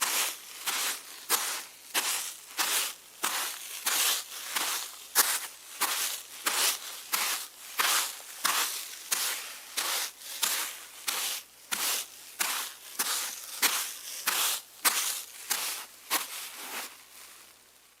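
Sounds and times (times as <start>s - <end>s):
bare footsteps in grass: 0.0s - 17.6s.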